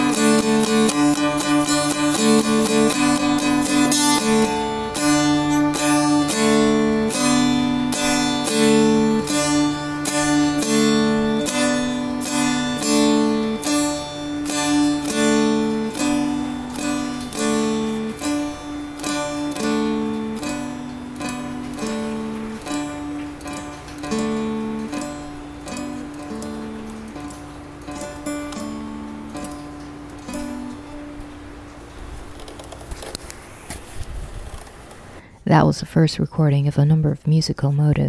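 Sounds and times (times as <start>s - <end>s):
stick dulcimer playing: 0.0s - 33.2s.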